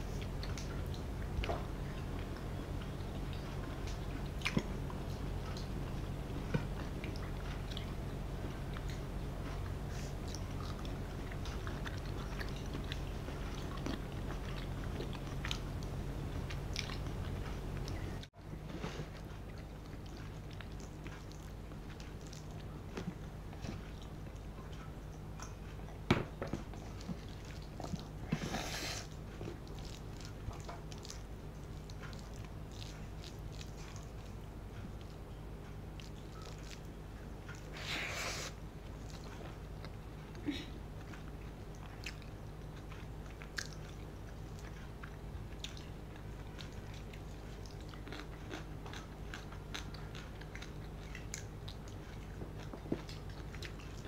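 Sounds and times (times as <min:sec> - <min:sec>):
chewing and eating: 0:00.0 - 0:54.0
low steady hum: 0:00.0 - 0:54.0.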